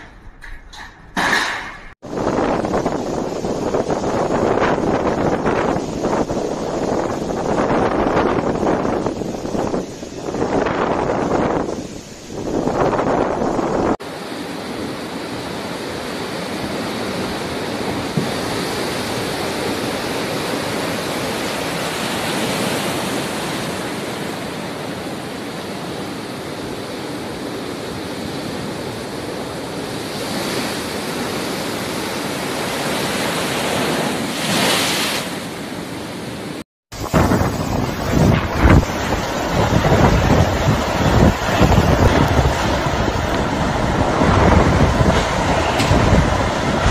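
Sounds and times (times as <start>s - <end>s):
storm waves crashing: 0.0s - 46.9s
wind: 0.0s - 46.9s.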